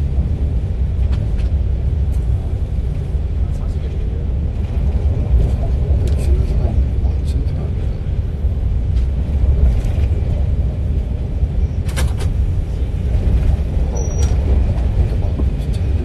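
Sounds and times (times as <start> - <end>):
train rumbling inside carriage: 0.0 - 16.0.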